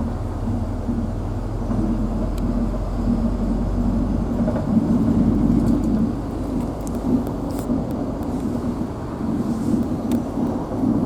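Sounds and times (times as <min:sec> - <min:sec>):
vehicle engine and road drone: 0:00.0 - 0:11.0.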